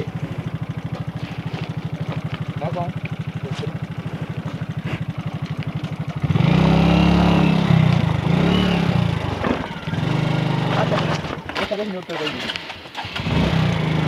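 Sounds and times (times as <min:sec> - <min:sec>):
motorcycle engine idling: 0:00.0 - 0:14.0
motorcycle engine revving: 0:00.0 - 0:14.0.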